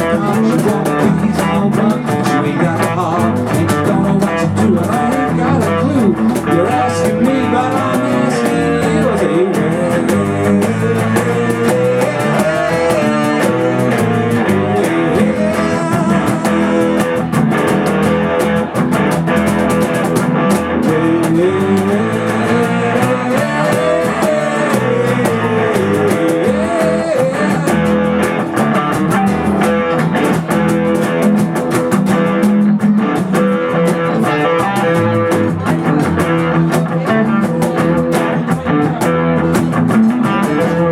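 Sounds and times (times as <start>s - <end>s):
lead guitar bending notes: 0.0s - 40.9s
live blues rock band: 0.0s - 40.9s.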